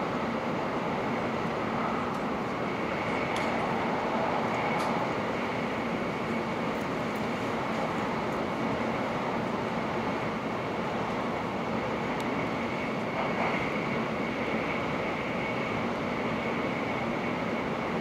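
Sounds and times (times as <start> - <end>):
faint high whine: 0.0 - 18.0
train carriage rumble and rush: 0.0 - 18.0.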